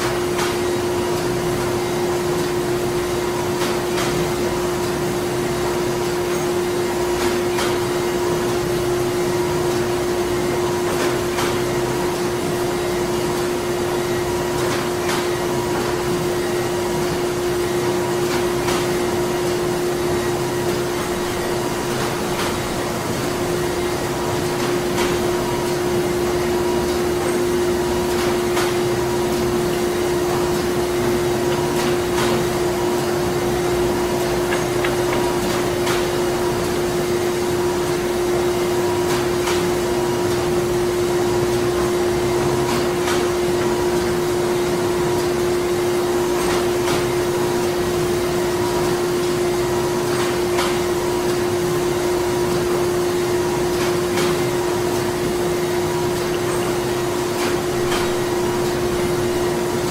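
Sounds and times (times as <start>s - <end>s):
printing machinery droning: 0.0s - 59.9s.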